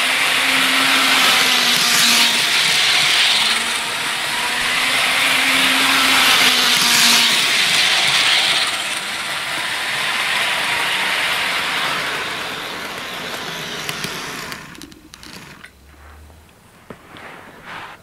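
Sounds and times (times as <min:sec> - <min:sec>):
model train whirring rattle: 0:00.0 - 0:15.8
model train wheel clicks: 0:00.2 - 0:15.8.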